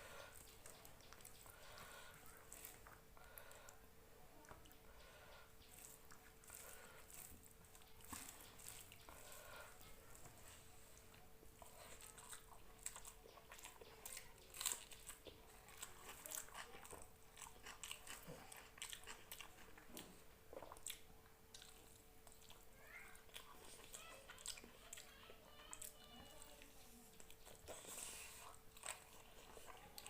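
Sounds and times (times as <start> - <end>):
faint steady hum: 0.0 - 30.0
person chewing food: 0.0 - 30.0.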